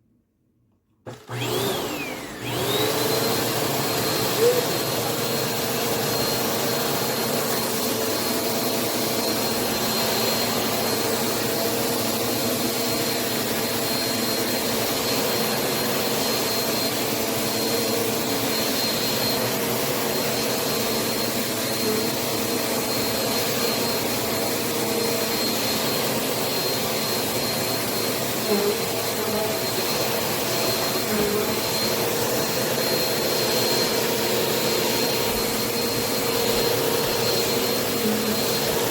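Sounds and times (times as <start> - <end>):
upright vacuum running: 1.0 - 38.9.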